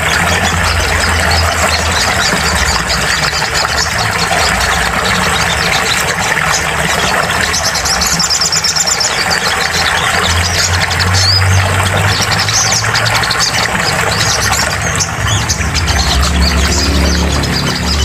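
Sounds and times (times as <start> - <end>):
bird song with high trill: 0.0 - 18.0.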